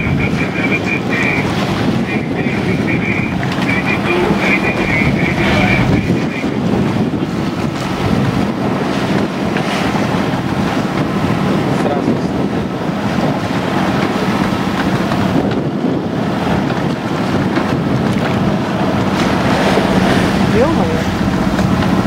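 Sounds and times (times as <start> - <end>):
choppy sea rushing along hull: 0.0 - 22.0
wind buffeting microphone: 0.0 - 22.0.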